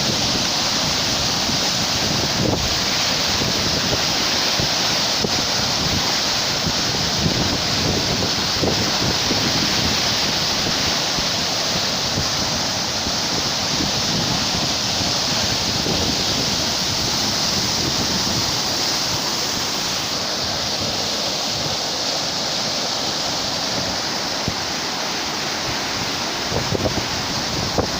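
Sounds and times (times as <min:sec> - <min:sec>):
floodwater rushing: 0:00.0 - 0:27.9.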